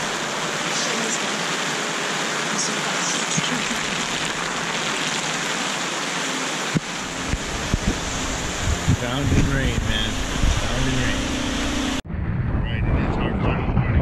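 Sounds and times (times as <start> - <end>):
heavy rain on tent fabric: 0.0 - 11.7.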